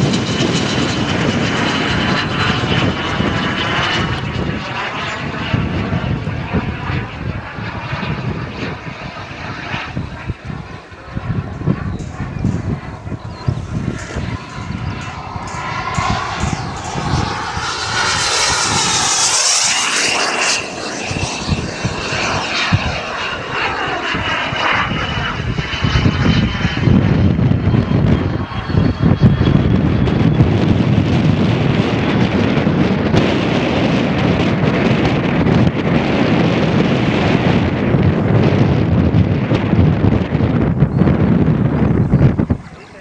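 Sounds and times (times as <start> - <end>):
model aircraft engine: 0.0 - 43.0
wind buffeting microphone: 0.0 - 43.0.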